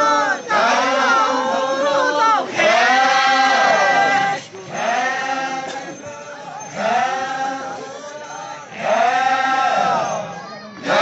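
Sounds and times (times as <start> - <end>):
group chanting in unison: 0.0 - 11.0.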